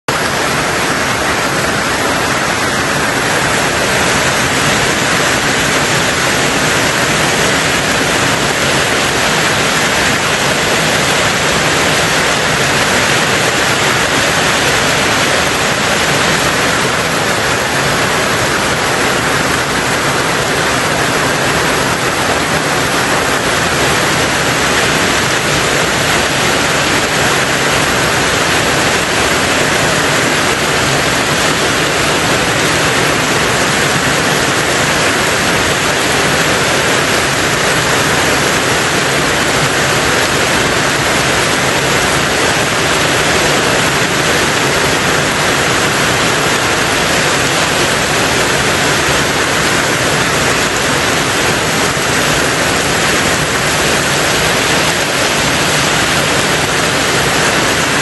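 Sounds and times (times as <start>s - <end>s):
rain on a tin roof: 0.1s - 58.0s.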